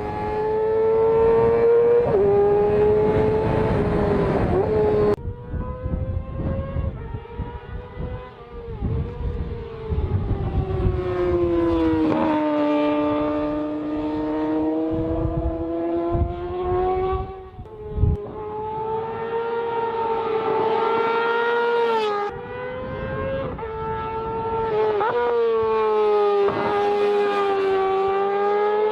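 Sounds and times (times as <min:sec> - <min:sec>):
motorcycle engine revving high: 0:00.0 - 0:28.9.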